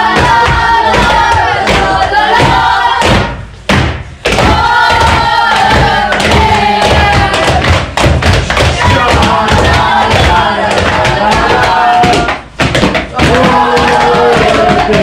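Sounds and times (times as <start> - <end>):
boys chanting: 0.0 - 3.4, 4.2 - 15.0
boots banging on floor: 0.2 - 15.0.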